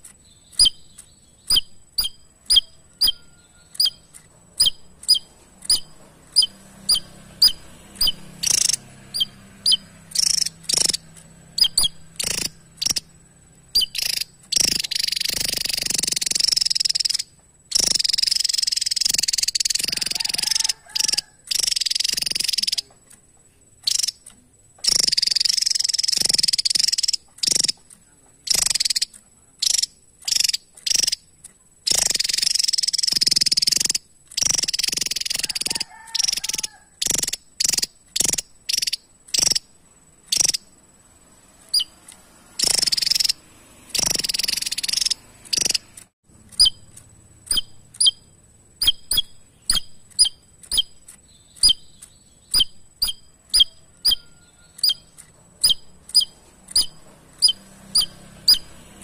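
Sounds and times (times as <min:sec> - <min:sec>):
bird rasping rattles: 0:00.0 - 0:59.0.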